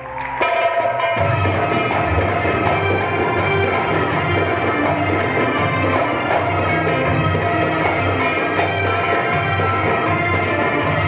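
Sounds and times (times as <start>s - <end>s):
hand drums: 0.0s - 11.0s.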